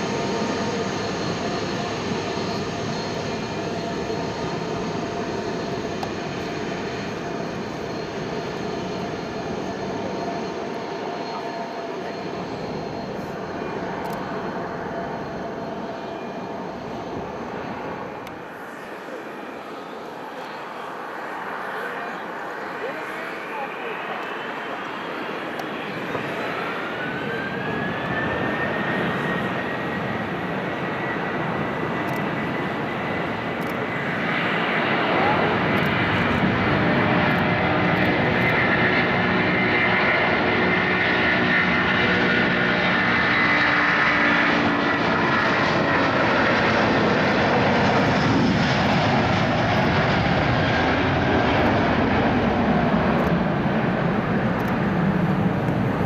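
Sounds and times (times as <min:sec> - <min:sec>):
jet engine whine rising: 0:00.0 - 0:56.0
loud jet engine noise: 0:00.0 - 0:56.0.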